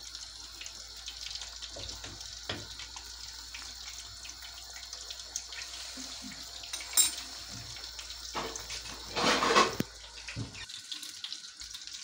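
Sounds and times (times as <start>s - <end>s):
sauce simmering in a pan: 0.0s - 12.0s.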